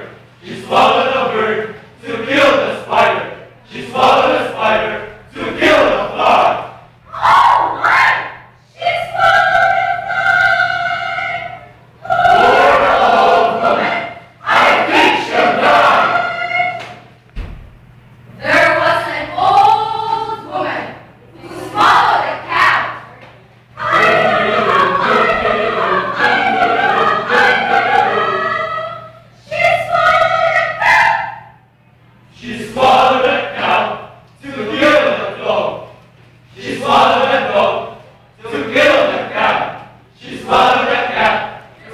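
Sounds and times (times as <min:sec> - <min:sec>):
voices chanting in unison: 0:00.0 - 0:17.1, 0:18.4 - 0:23.2, 0:23.8 - 0:31.6, 0:32.3 - 0:41.9.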